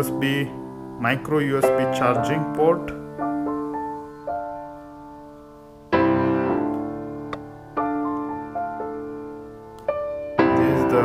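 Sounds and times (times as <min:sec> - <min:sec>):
slow solo piano chords: 0:00.0 - 0:11.0.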